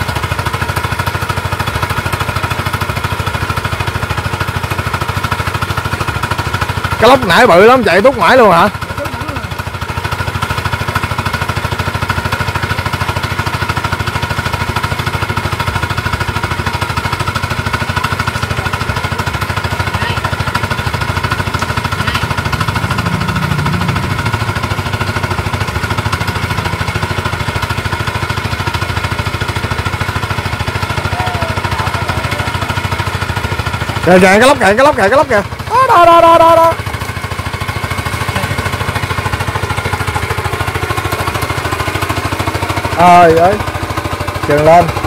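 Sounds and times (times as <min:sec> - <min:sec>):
small engine driving water pump: 0:00.0 - 0:45.0.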